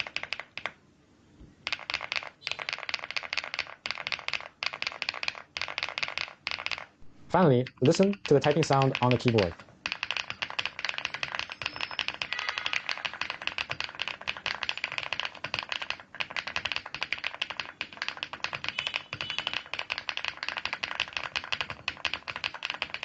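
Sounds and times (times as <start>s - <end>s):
mechanical keyboard typing: 0.0s - 0.8s, 1.6s - 23.0s.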